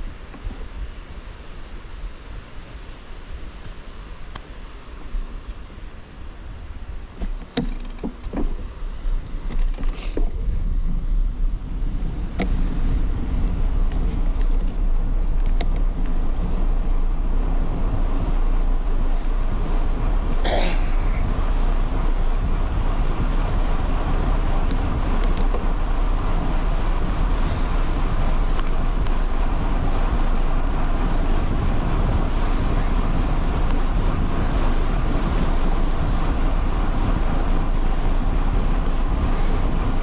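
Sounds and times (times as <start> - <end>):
wind rumble on microphone: 0.0 - 40.0.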